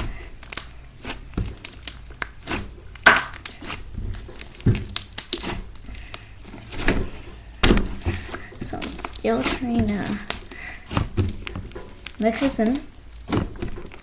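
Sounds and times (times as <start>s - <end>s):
slime crackling and popping: 0.0s - 14.0s.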